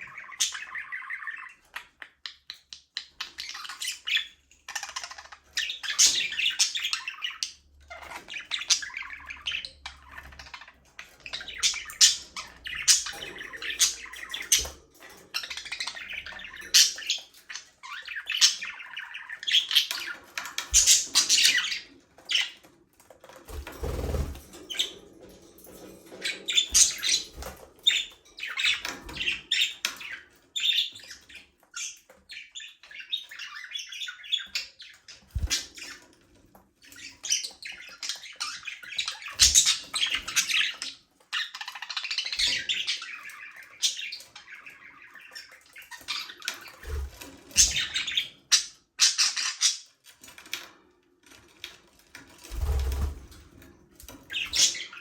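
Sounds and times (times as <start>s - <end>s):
budgerigars chirping: 0.0s - 22.7s, 26.1s - 36.0s, 36.8s - 50.0s, 54.2s - 55.0s.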